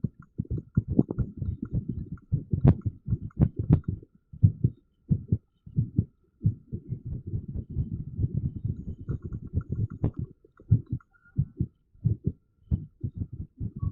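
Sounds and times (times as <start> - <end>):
heartbeat thumps: 0.0 - 13.9.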